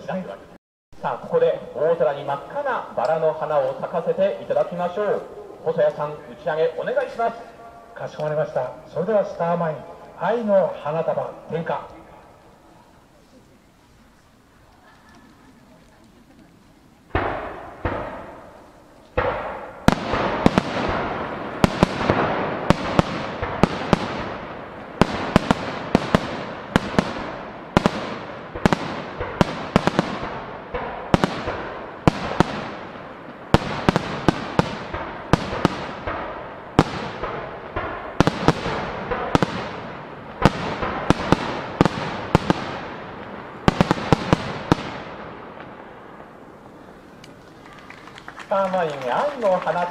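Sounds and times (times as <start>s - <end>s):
fireworks bursting: 1.0s - 49.9s
fireworks crackle: 1.0s - 49.9s.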